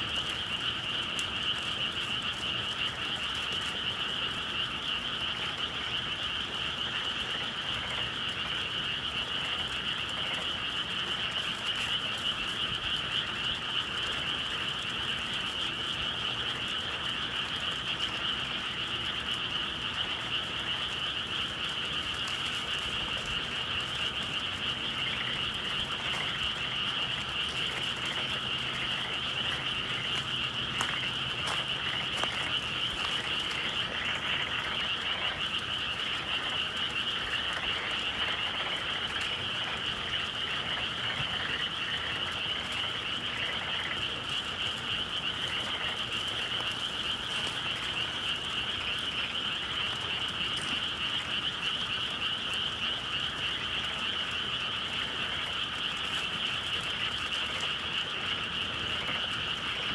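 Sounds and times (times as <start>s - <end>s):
chorus of frogs trilling: 0.0s - 59.9s.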